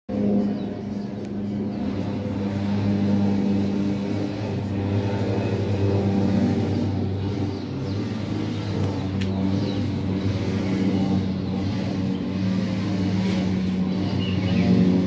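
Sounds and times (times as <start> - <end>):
small motor fan humming: 0.1 - 15.0.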